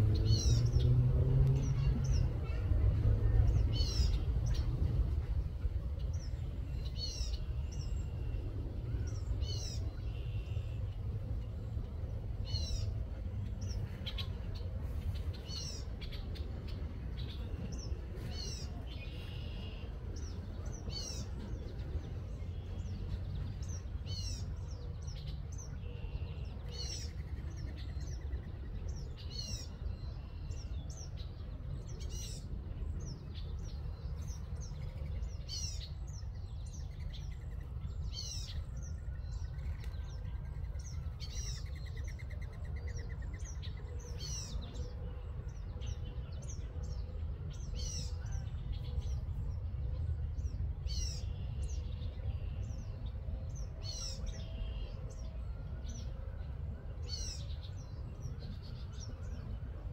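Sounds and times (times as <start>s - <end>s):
songbirds calling: 0.0s - 59.9s
wind rumble on microphone: 0.0s - 59.9s.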